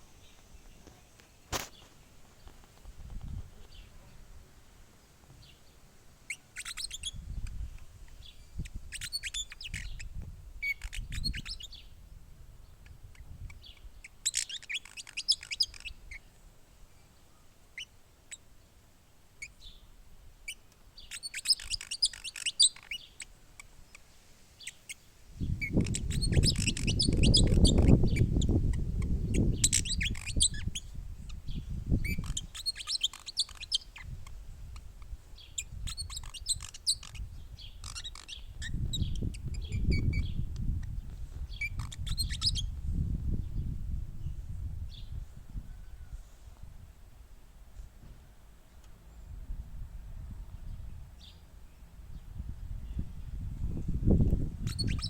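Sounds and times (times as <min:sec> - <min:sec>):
small birds chirping: 0:00.0 - 0:04.3, 0:05.0 - 0:46.2, 0:50.2 - 0:55.0.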